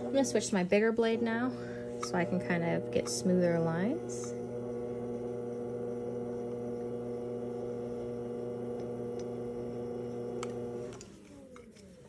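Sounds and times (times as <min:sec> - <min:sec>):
pottery wheel motor humming: 0:00.0 - 0:12.0.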